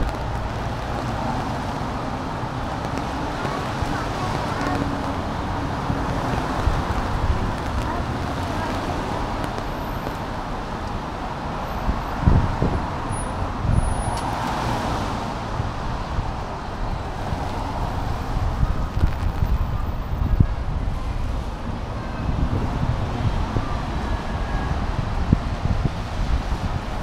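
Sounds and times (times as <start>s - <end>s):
wind thumping on microphone: 0.0s - 10.6s, 11.8s - 14.7s, 15.4s - 27.0s
traffic on wet road: 0.0s - 27.0s.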